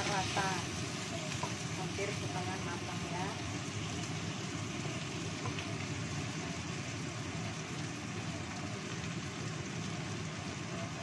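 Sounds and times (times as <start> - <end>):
gas burner rumble: 0.0 - 11.0
vegetables sizzling in oil: 0.0 - 11.0.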